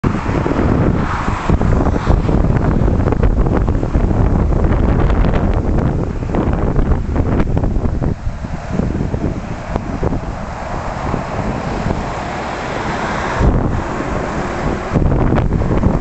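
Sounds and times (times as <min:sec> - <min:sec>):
diesel truck engine running: 0:00.0 - 0:16.0
wind buffeting microphone: 0:00.0 - 0:16.0.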